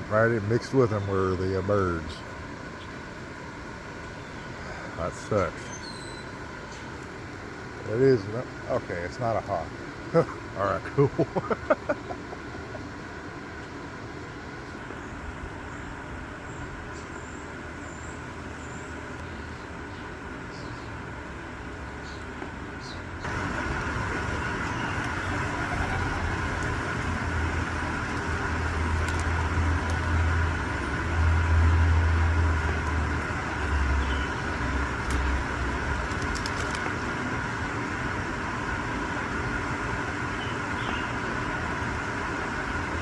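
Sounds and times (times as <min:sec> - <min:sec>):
outdoor background noise: 0:00.0 - 0:43.0.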